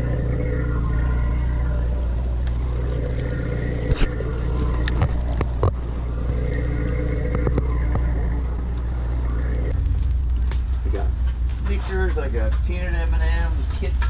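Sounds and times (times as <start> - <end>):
boat engines droning: 0.0 - 14.0.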